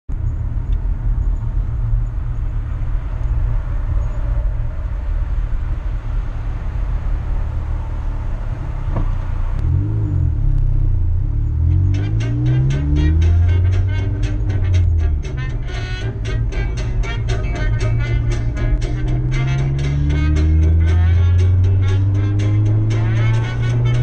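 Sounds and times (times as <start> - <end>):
car engine and tyres rumbling: 0.1 - 24.0
low rising and falling tones: 0.1 - 24.0.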